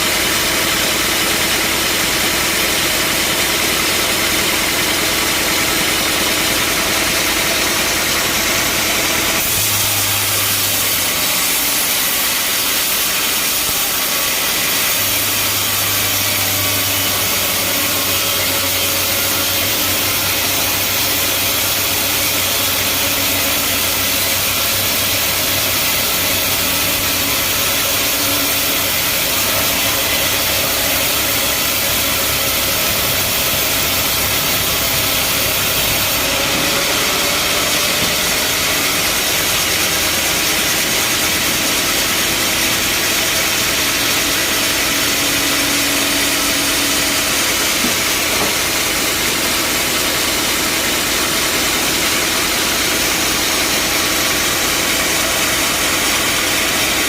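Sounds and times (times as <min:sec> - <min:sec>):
bandsaw machinery running: 0:00.0 - 0:57.0.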